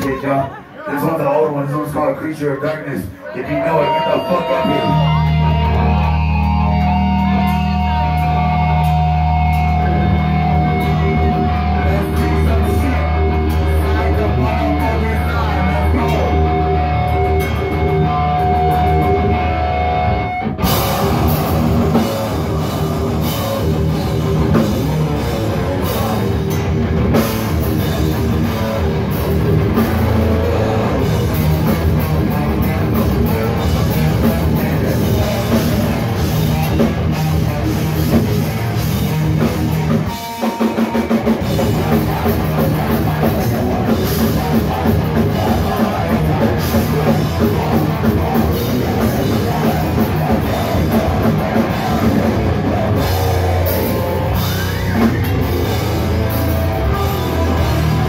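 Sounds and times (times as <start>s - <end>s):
heavy rock band playing: 0.0s - 58.0s.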